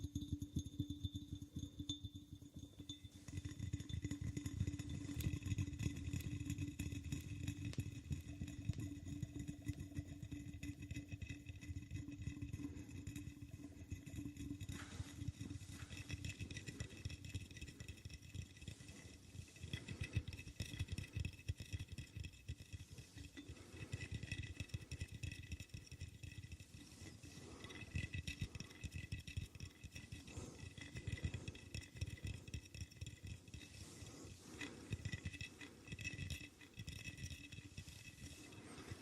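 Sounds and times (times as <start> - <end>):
light scratching: 4.7 - 39.0.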